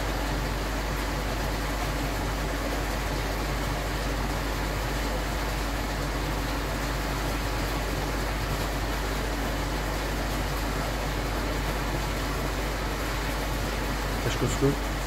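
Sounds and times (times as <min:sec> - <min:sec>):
constant even hiss: 0:00.0 - 0:15.0
low mechanical hum: 0:00.0 - 0:15.0.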